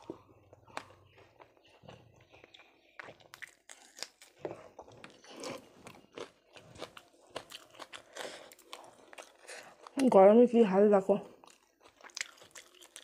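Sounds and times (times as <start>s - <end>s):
person chewing crunchy bread: 0.0s - 10.1s, 11.4s - 13.0s.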